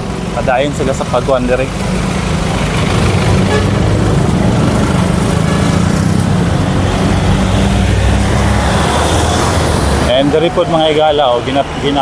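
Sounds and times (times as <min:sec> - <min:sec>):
passing cars: 0:00.0 - 0:12.0
vehicle engine humming: 0:00.0 - 0:12.0.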